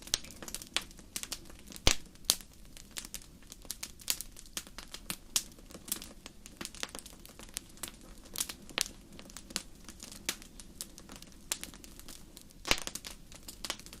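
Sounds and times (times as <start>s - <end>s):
fire crackling: 0.0s - 14.0s
fire popping: 0.0s - 14.0s.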